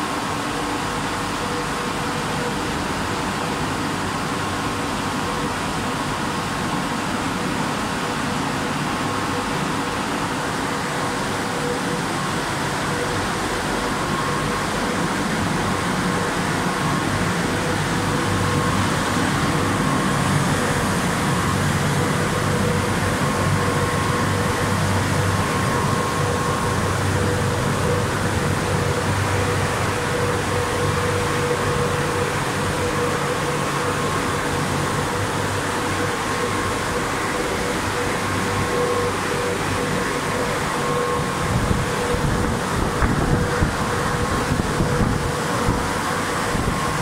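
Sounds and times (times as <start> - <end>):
car wash blowers rushing air: 0.0 - 47.0.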